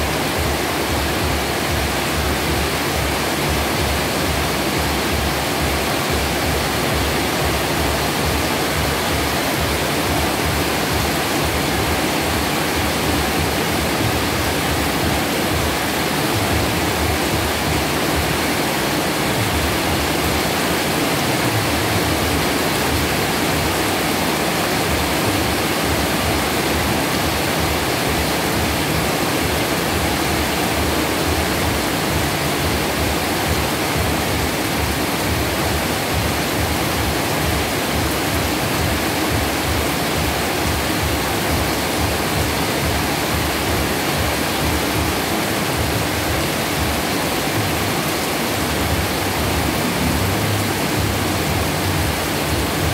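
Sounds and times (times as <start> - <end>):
heavy rain pouring: 0.0 - 52.9.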